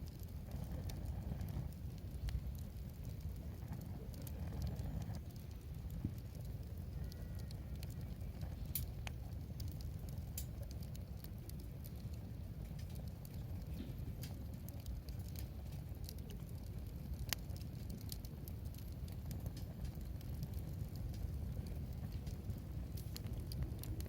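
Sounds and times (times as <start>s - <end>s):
low fire rumble: 0.0s - 24.0s
wood fire crackling and popping: 0.0s - 24.0s.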